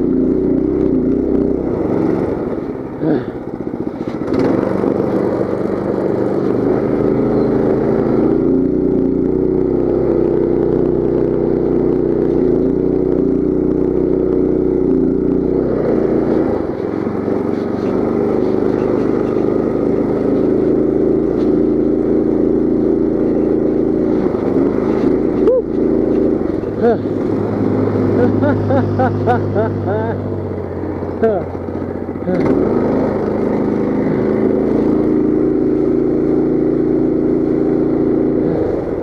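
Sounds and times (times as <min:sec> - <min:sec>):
mini bike engine running: 0:00.0 - 0:39.0.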